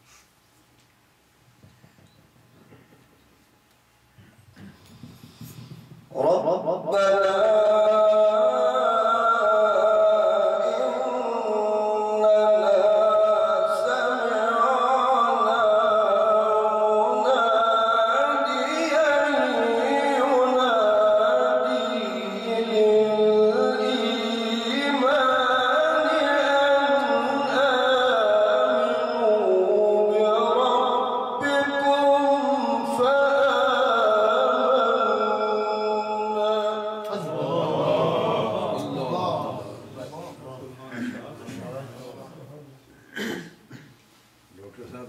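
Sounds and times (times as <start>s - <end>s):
man chanting into a microphone: 6.1s - 42.5s.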